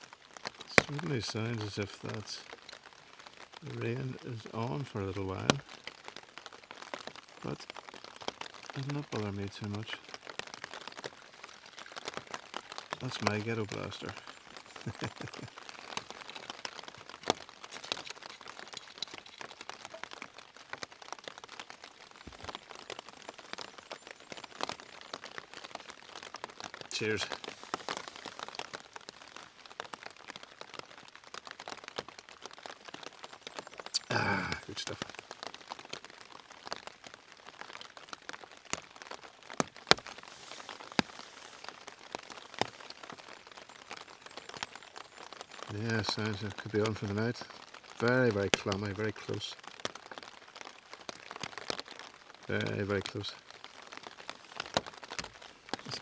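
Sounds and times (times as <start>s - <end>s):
rain pattering on tent fabric: 0.0s - 56.0s.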